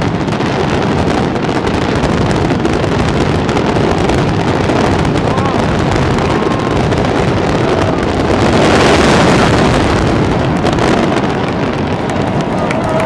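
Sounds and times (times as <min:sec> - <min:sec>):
fireworks barrage rumbling: 0:00.0 - 0:13.0.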